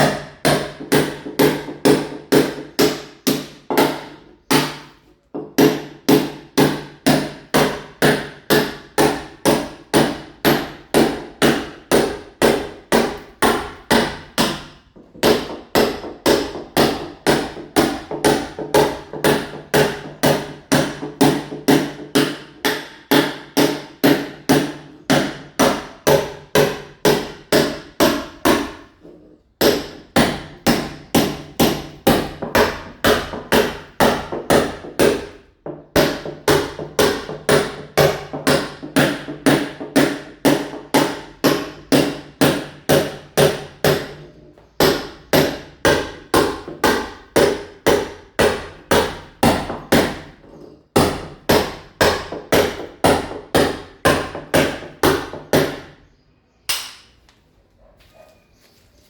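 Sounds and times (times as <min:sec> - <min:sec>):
hammer blows chipping a wall: 0:00.0 - 0:56.1.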